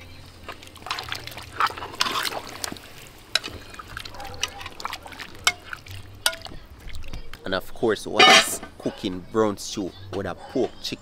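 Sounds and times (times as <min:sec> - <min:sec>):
stew bubbling and sloshing: 0:00.0 - 0:08.8.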